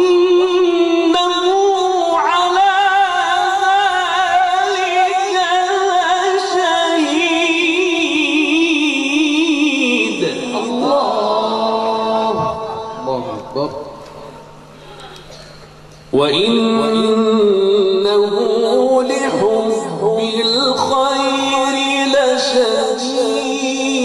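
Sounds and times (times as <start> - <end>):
man chanting melodic recitation: 0.0 - 14.0, 16.1 - 24.0.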